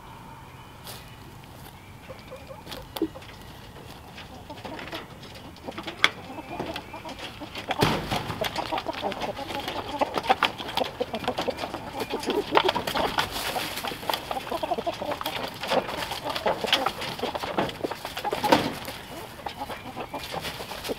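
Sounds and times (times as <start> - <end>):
chickens clucking: 0.0 - 20.9.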